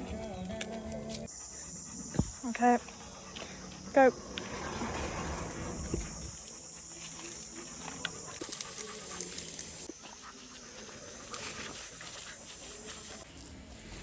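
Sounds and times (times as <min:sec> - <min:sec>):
dog panting: 0:00.0 - 0:13.3
insects droning: 0:00.0 - 0:14.0.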